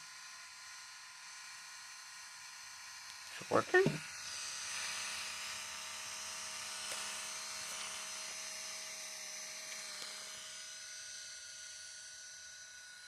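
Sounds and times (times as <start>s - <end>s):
small motor whirring: 0.0s - 13.0s.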